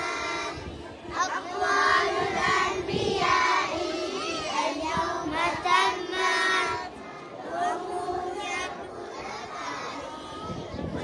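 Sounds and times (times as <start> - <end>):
children singing: 0.0 - 10.5.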